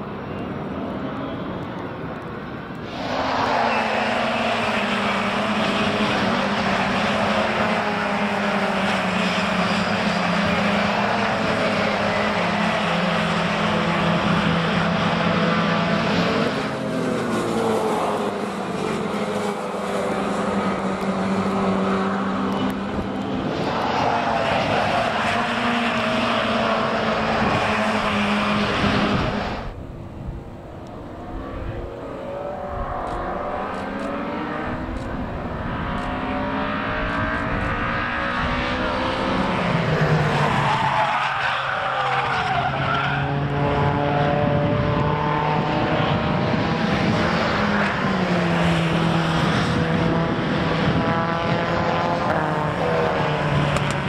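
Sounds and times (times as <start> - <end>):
racing car engines accelerating: 0.2 - 54.0.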